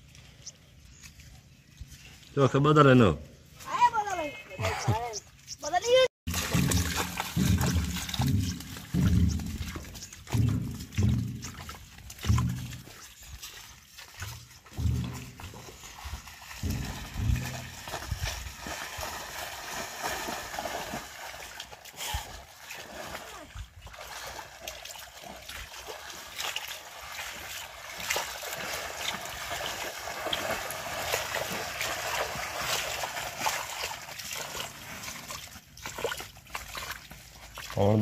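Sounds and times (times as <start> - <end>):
footsteps splashing in water: 6.3 - 38.0.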